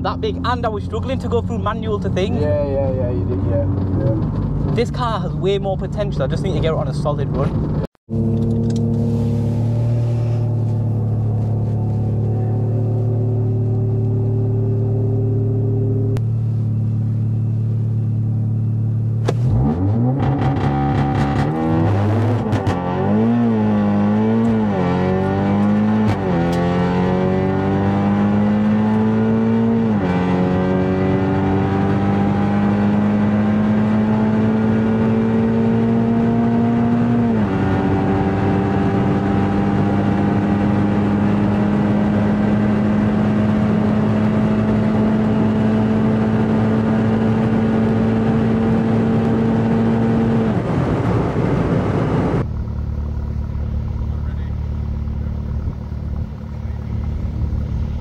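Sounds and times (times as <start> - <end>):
car engine accelerating hard: 6.6 - 58.0.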